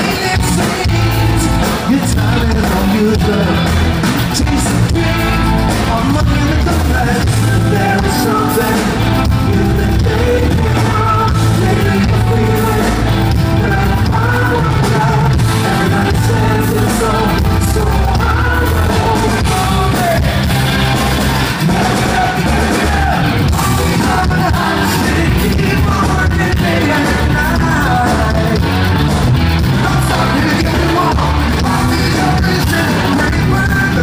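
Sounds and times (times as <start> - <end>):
man singing lead vocal: 0.0 - 34.0
rock band playing live: 0.0 - 34.0.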